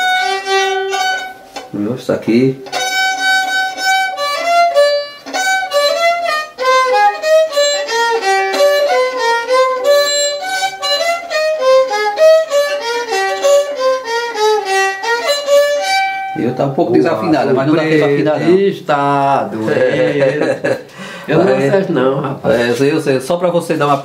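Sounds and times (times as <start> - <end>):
fiddle bowed melody: 0.0 - 19.8.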